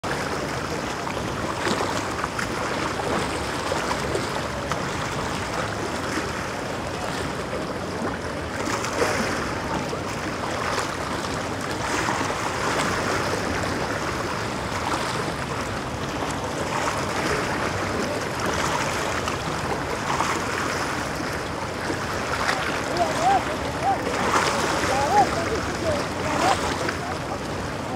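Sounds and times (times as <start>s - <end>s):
waves washing against rocks: 0.0s - 27.9s.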